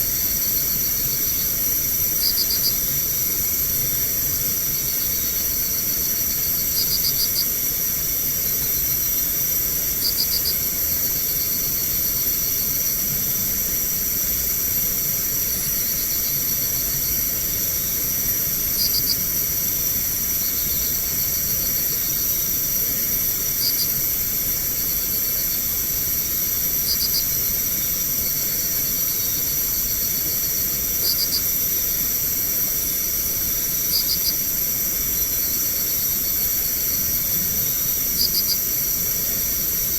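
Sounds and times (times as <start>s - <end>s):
cricket chirps: 0.0s - 39.9s
insects shrill chorus: 0.0s - 39.9s.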